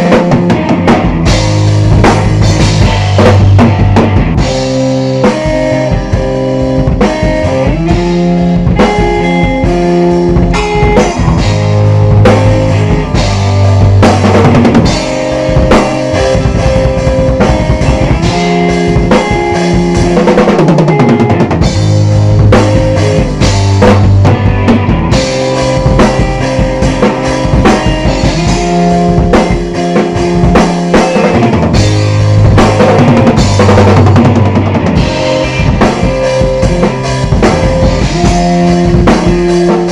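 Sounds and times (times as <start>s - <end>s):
band playing instrumental: 0.0s - 39.9s
bass drum and snare hits: 0.0s - 39.9s
held guitar notes: 0.0s - 39.9s.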